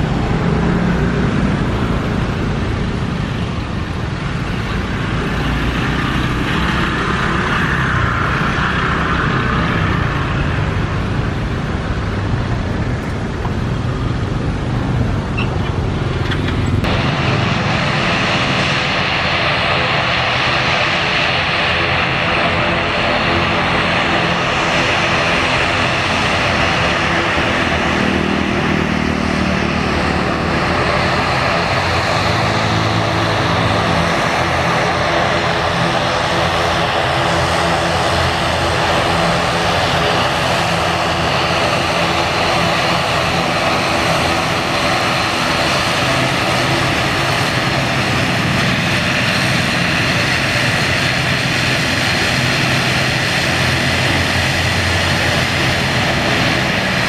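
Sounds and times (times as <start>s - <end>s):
turboprop engines running: 0.0s - 57.0s.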